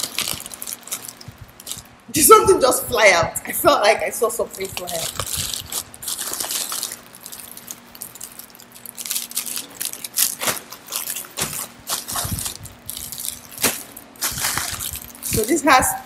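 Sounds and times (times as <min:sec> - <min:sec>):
plastic mailer bag crinkling: 0:00.0 - 0:02.0, 0:04.2 - 0:16.0.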